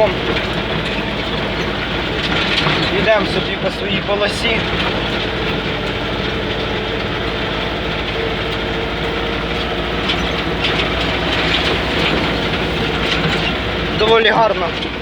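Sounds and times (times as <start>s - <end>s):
clattering rattle: 0.0s - 15.0s
vehicle engine running: 0.0s - 15.0s.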